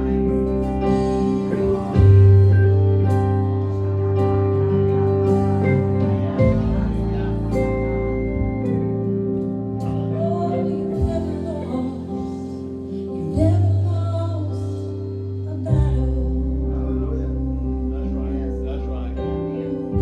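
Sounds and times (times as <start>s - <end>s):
person singing: 0.0s - 9.1s, 9.8s - 20.0s
bass line: 0.0s - 20.0s
keyboard chords: 0.0s - 20.0s.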